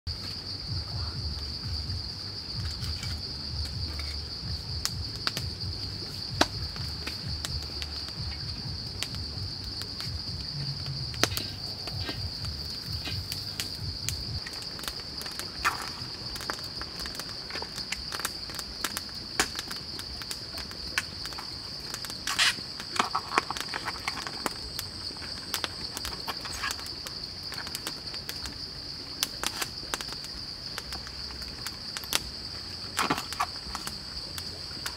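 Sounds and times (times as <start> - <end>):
insects droning in chorus: 0.1 - 34.9.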